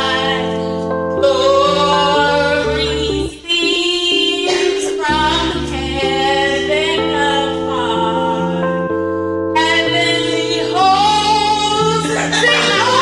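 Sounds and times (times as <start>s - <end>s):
woman singing karaoke: 0.0s - 8.8s, 9.6s - 13.0s
backing track of held chords: 0.0s - 13.0s.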